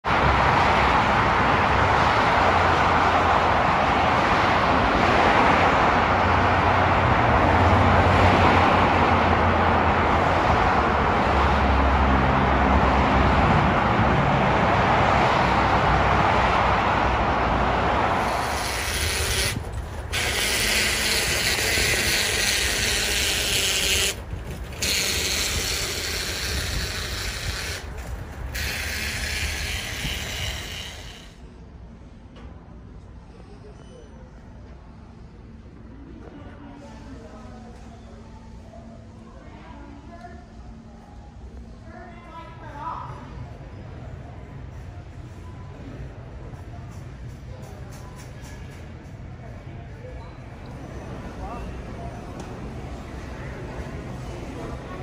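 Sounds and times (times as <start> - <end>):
car road and tyre noise: 0.0 - 33.2, 39.4 - 55.0.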